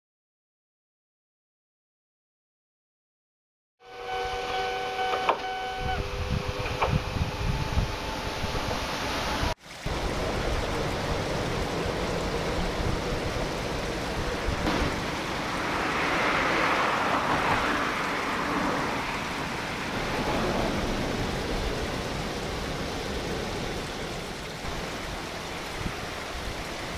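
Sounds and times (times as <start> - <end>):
electric train rumbling away: 3.8 - 26.9
river rushing over weir: 4.3 - 26.9.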